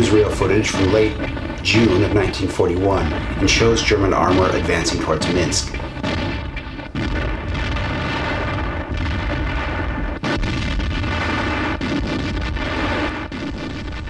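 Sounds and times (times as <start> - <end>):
deep rumble: 0.0 - 14.0
explosions and gunshots: 0.0 - 14.0.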